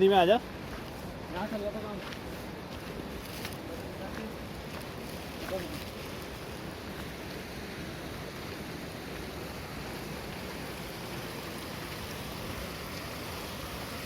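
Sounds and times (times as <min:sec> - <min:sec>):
fast mountain stream rushing: 0:00.0 - 0:14.0.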